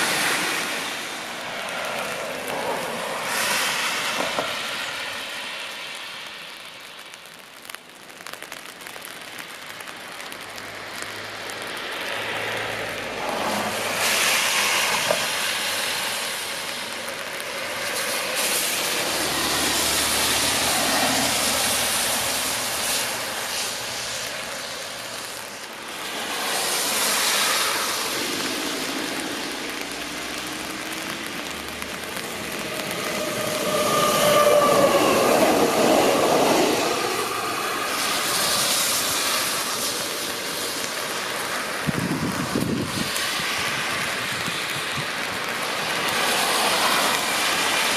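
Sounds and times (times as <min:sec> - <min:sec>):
tyre hiss on wet road: 0:00.0 - 0:47.9.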